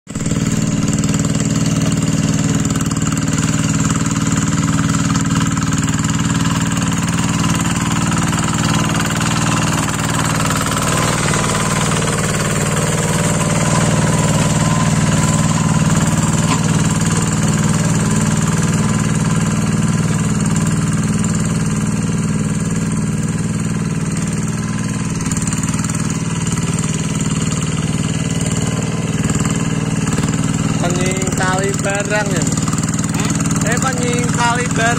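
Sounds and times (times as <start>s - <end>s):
diesel engine running under load: 0.1s - 34.9s.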